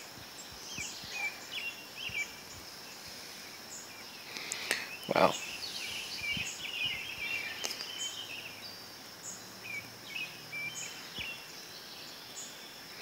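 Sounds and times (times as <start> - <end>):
birds twittering: 0.0 - 13.0
high insect drone: 0.0 - 13.0.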